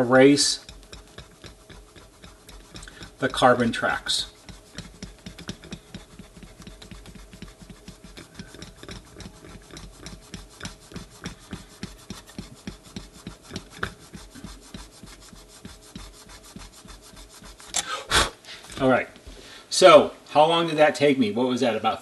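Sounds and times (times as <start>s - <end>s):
eraser scrubbing on circuit board: 0.0s - 17.8s.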